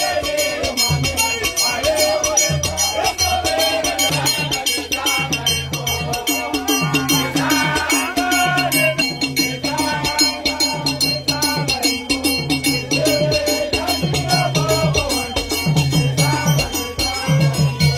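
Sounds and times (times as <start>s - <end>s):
upbeat music with shaker and drums: 0.0s - 17.9s.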